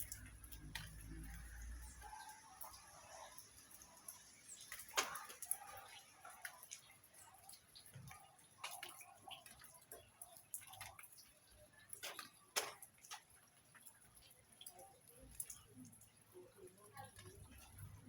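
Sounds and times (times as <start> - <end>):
rainwater dripping: 0.0 - 18.0.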